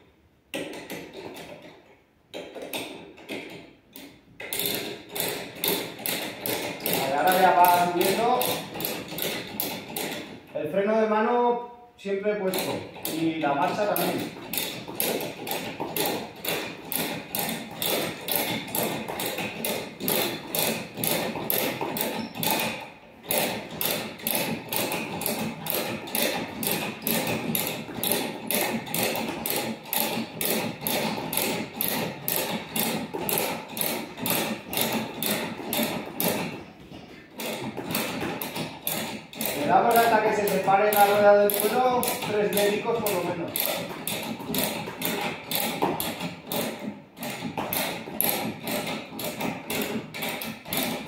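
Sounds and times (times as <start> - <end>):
jack crank clicking: 0.5 - 10.6, 12.4 - 36.6, 37.3 - 51.0.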